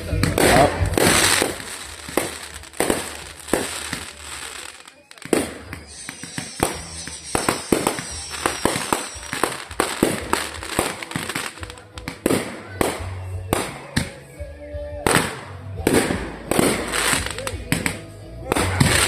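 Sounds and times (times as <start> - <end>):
fireworks bangs and crackles: 0.0 - 14.4, 15.0 - 19.0.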